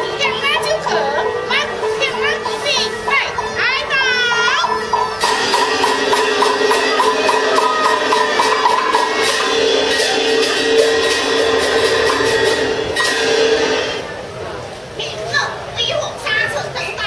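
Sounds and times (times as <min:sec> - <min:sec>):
held instrument notes: 0:00.0 - 0:15.7.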